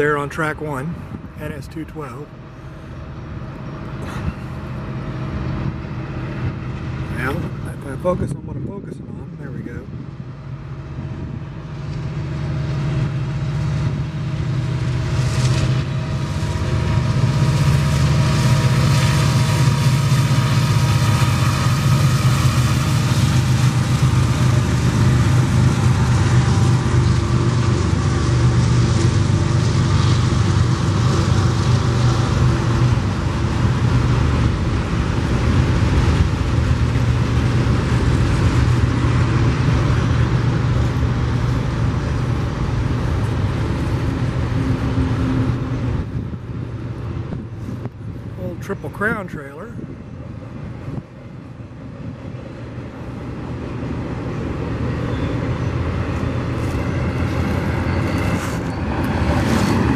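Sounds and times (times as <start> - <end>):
diesel locomotive engines droning: 0.0 - 59.9
freight cars rumbling on rails: 0.0 - 59.9.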